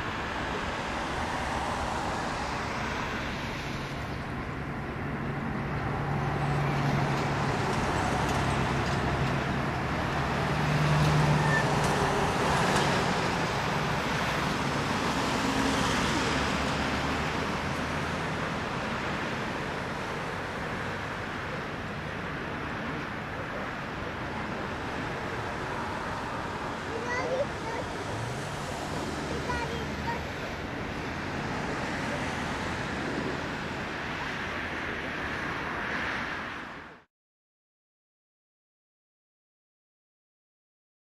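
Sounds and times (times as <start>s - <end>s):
jet engines at takeoff: 0.0s - 37.1s.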